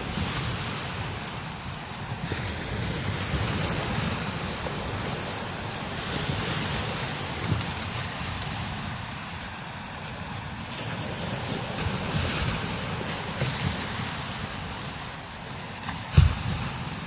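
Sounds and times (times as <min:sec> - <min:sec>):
strong wind gusting: 0:00.0 - 0:17.0
wind buffeting microphone: 0:00.0 - 0:17.0.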